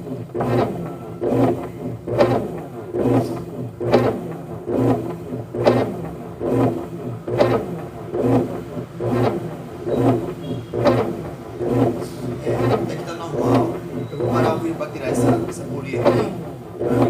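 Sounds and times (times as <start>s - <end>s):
washing machine agitating: 0.0s - 17.0s.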